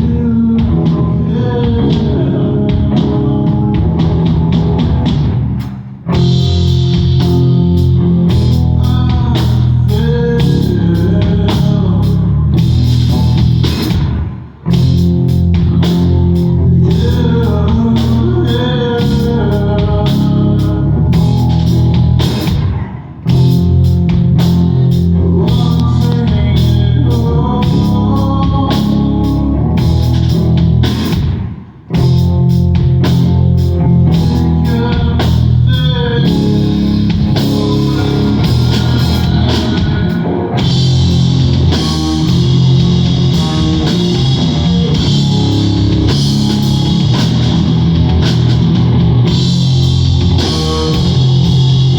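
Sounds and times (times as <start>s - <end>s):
live rock band playing: 0.0s - 51.9s.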